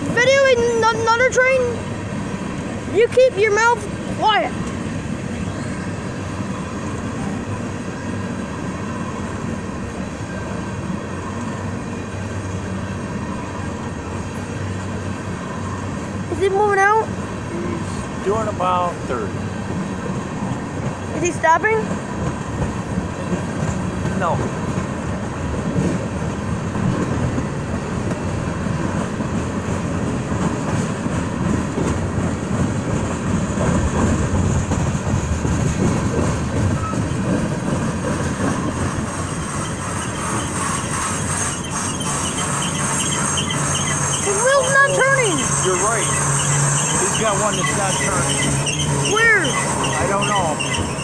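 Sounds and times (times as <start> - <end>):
freight train wheels on rails: 0.0 - 51.0.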